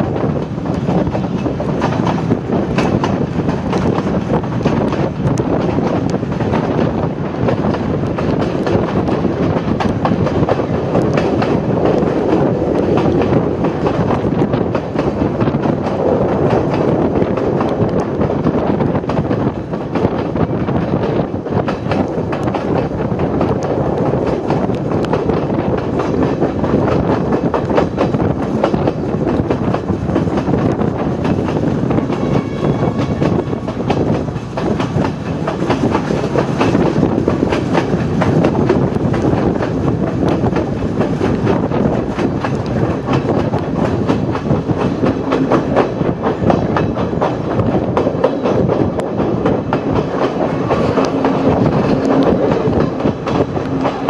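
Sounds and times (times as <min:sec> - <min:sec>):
train carriage running noise: 0:00.0 - 0:54.0.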